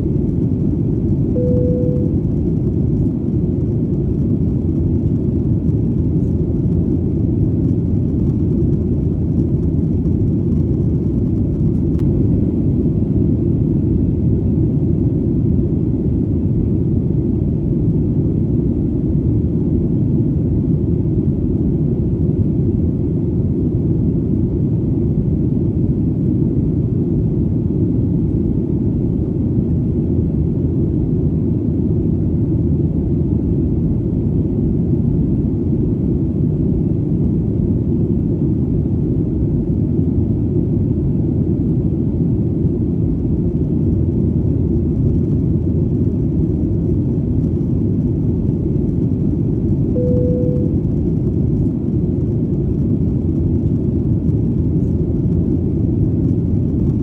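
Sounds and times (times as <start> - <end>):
airplane rumbling in flight: 0.0 - 57.0.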